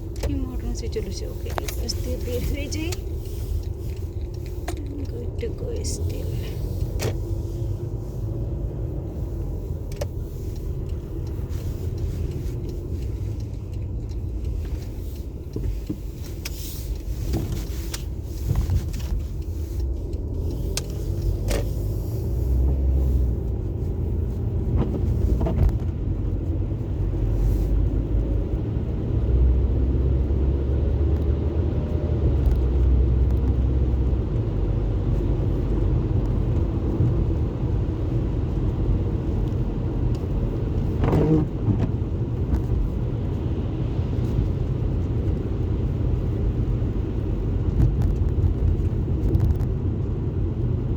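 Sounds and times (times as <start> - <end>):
car engine and road rumble: 0.0 - 50.9.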